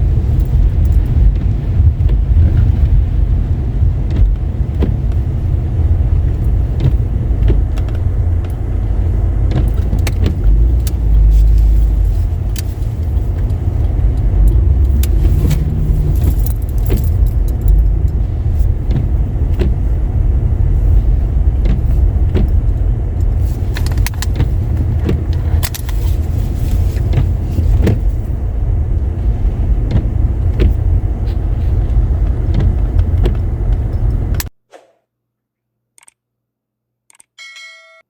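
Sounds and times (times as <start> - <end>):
car driving on wet road: 0.0 - 34.5.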